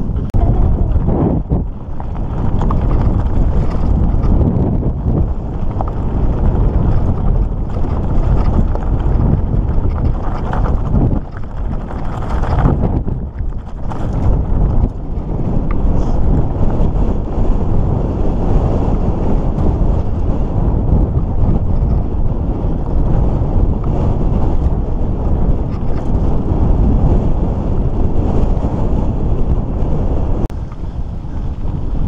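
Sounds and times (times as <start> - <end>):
bike tyres on gravel: 0.0 - 29.8, 30.5 - 32.0
wind buffeting microphone: 0.0 - 32.0.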